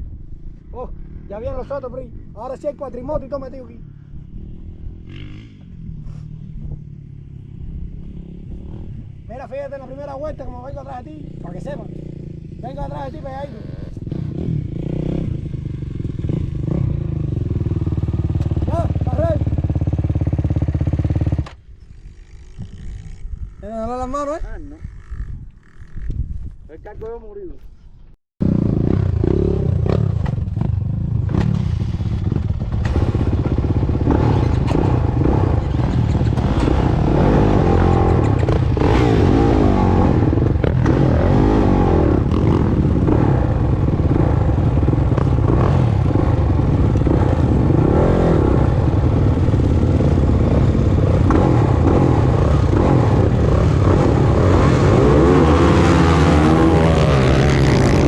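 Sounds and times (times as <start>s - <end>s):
dirt bike engine revving: 3.9s - 23.7s, 28.4s - 58.0s.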